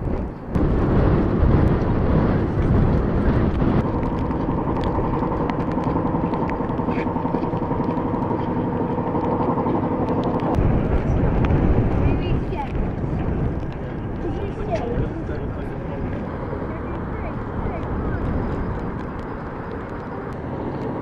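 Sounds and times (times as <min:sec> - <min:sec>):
steady multi-tone hum: 0:00.0 - 0:21.0
wind buffeting microphone: 0:00.0 - 0:21.0.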